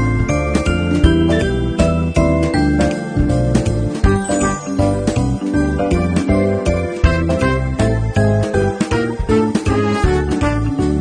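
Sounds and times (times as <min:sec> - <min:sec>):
upbeat festive tune with bell tones: 0:00.0 - 0:11.0.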